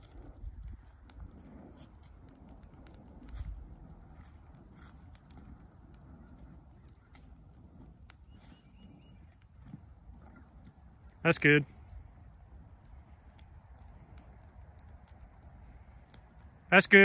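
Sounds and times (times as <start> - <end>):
wind rumble on microphone: 0.0 - 16.7
flames crackling in dry leaves: 0.0 - 17.0.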